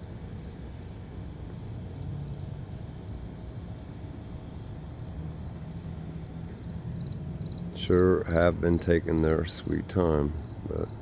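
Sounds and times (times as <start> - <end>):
high insect trill: 0.0 - 11.0
pulsing cricket chirp: 0.0 - 11.0
steady low rumble: 0.0 - 11.0.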